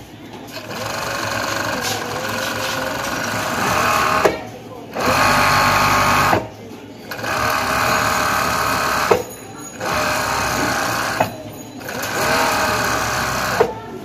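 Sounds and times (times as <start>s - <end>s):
sewing machine stitching: 0.5s - 6.5s, 7.1s - 13.8s.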